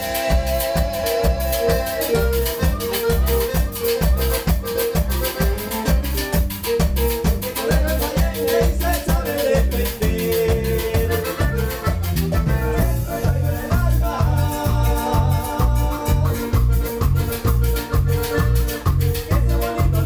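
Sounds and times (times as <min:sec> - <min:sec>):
live band playing latin dance music: 0:00.0 - 0:20.0.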